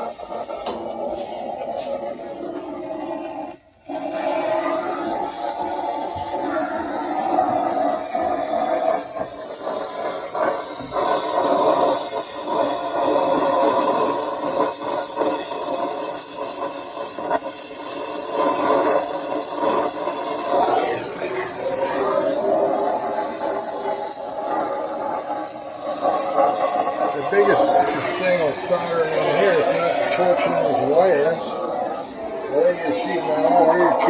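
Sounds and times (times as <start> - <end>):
torch flame hissing: 0.0 - 34.0.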